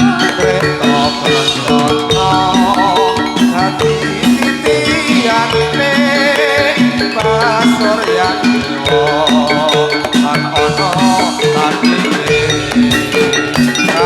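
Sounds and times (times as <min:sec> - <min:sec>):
drum strokes: 0:00.0 - 0:14.0
metallophones ringing: 0:00.0 - 0:14.0.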